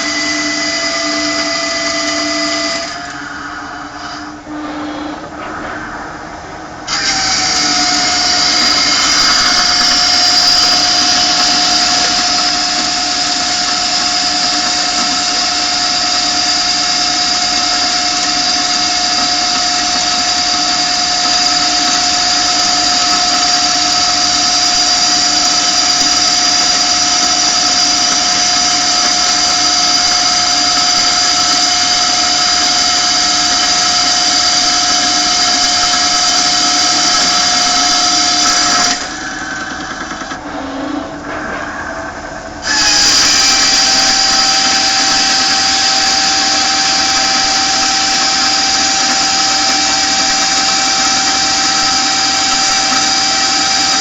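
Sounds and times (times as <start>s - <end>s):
lathe cutting with high whine: 0.0s - 54.0s.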